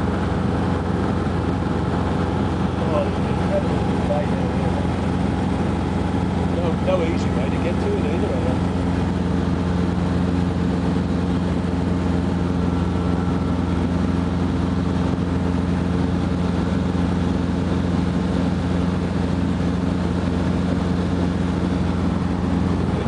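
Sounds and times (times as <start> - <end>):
helicopter cabin drone: 0.0 - 23.0.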